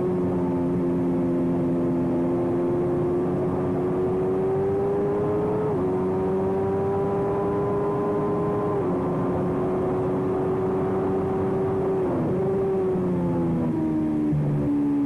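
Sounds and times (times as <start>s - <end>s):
race motorcycle engine: 0.0s - 15.0s.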